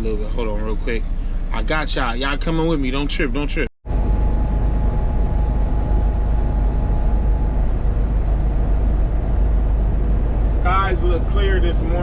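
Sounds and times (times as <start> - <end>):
faint steady whine: 0.0 - 12.0
truck engine and tyres rumbling: 0.0 - 12.0.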